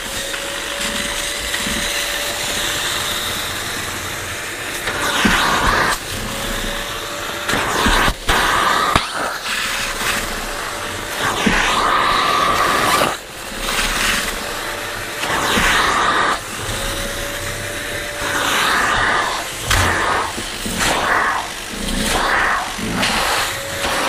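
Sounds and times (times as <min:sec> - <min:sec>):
suction motor whining: 0:00.0 - 0:24.0.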